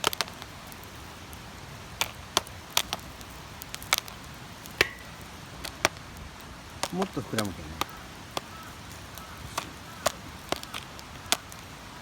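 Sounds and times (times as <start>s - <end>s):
campfire pops: 0.0s - 12.0s
faint steady hiss: 0.0s - 12.0s.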